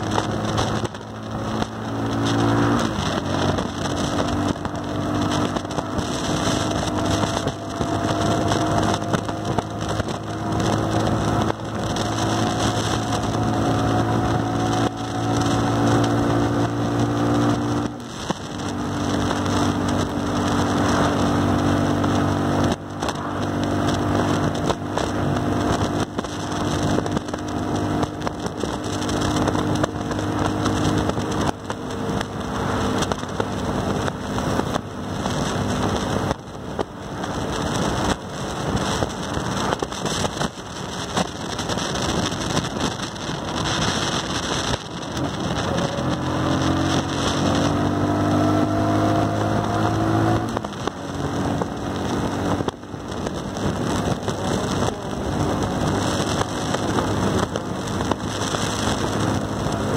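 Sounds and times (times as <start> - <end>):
motorcycle engine running: 0.0 - 59.9
wind on microphone: 0.0 - 59.9.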